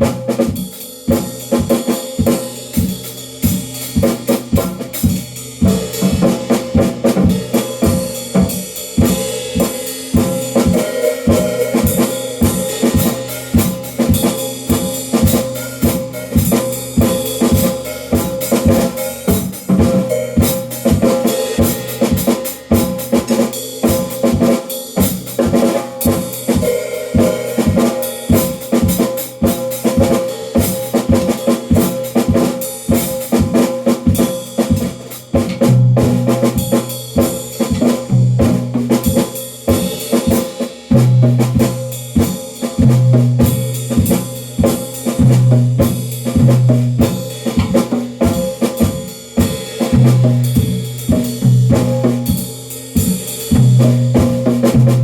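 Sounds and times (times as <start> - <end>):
drum kit groove: 0.0 - 55.0.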